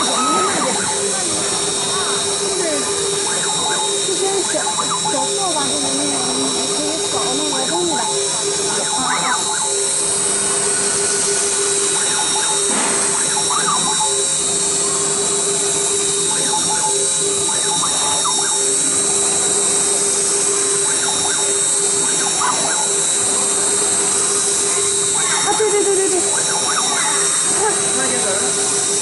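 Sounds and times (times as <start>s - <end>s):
router spindle high-pitched whine: 0.0s - 29.0s.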